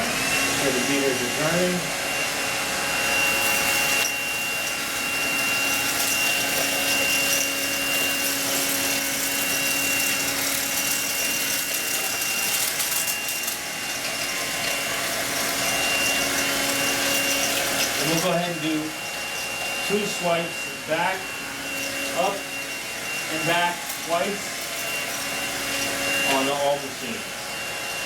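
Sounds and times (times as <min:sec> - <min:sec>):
stick vacuum running on carpet: 0:00.0 - 0:28.0.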